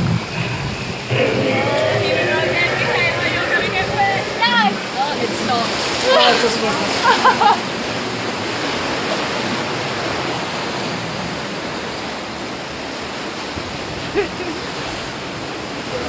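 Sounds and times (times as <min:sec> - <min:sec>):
whitewater rushing: 0:00.0 - 0:13.9.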